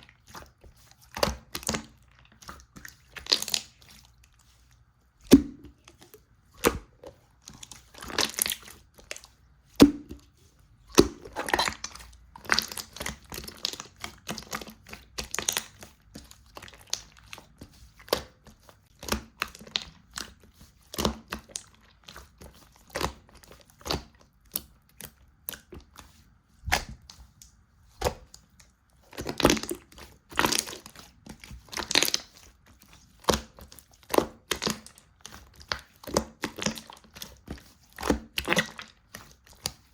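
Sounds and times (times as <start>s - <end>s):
slime clicking and squelching: 0.0s - 39.9s.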